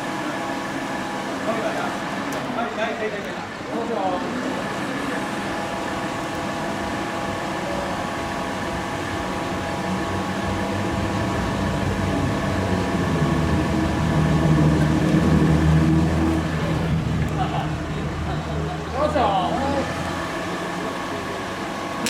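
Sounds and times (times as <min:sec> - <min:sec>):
motor running with thin whine: 0:00.0 - 0:22.0
deep engine drone: 0:04.3 - 0:22.0.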